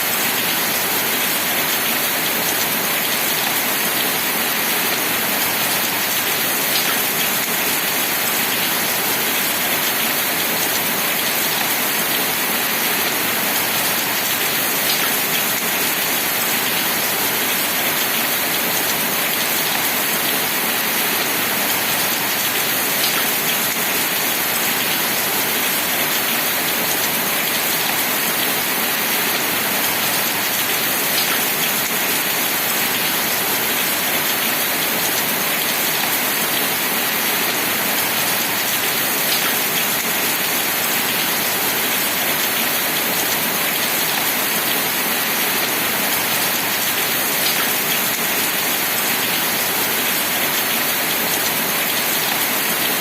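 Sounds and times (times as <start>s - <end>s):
rain falling: 0.1s - 53.0s.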